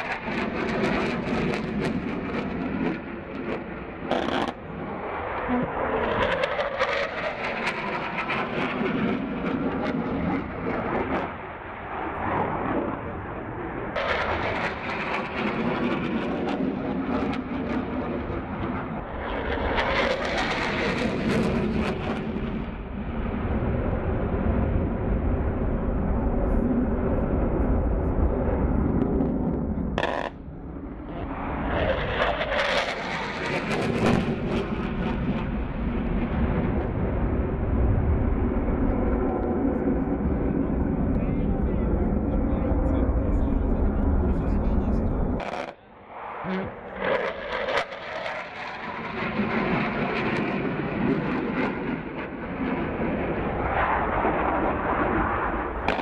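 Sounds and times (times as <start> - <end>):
fighter jet flying low past: 0.0 - 56.0.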